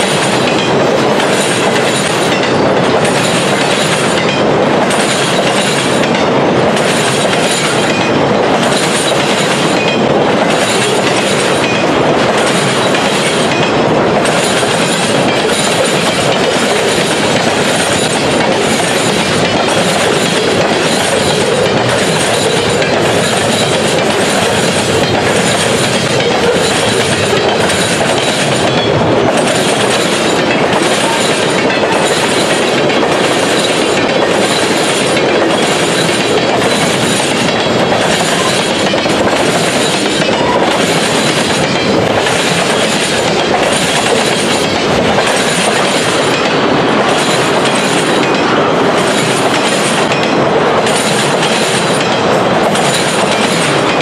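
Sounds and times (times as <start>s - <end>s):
freight train wheels clattering on rails: 0.0s - 54.0s.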